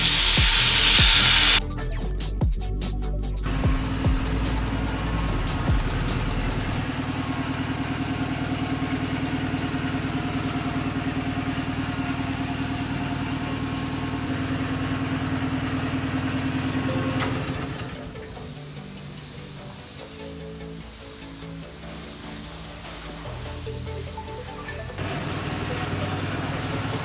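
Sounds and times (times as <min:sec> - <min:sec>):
motor running with fast pulse: 0:00.0 - 0:01.6, 0:03.5 - 0:27.0.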